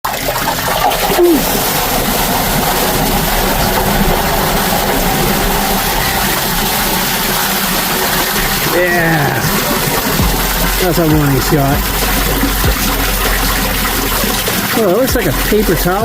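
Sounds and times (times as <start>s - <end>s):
constant rushing noise: 0.1s - 16.0s
engine running steadily: 0.4s - 16.0s.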